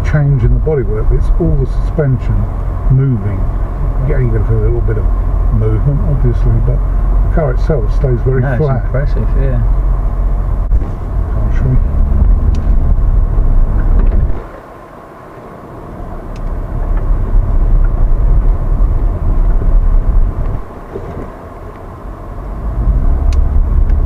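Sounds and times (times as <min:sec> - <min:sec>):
tyres rumbling on gravel: 0:00.0 - 0:14.7, 0:16.1 - 0:24.0.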